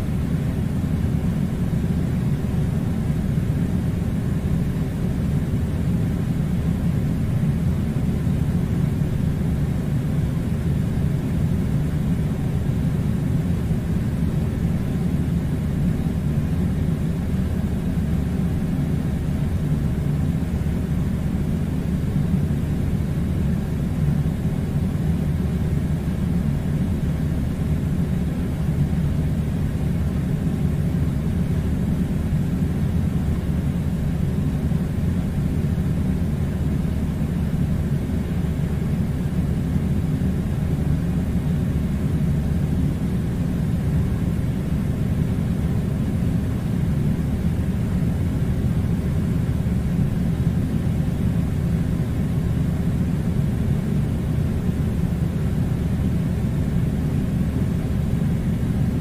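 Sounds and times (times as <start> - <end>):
air conditioner running: 0.0 - 59.0.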